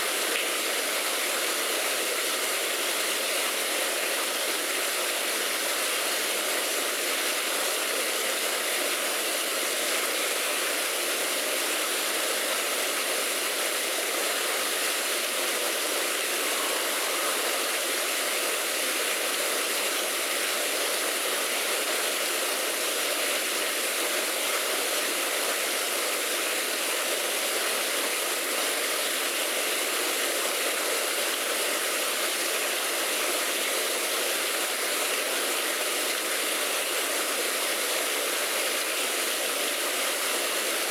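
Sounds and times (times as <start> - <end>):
steady rushing hiss: 0.0 - 40.9.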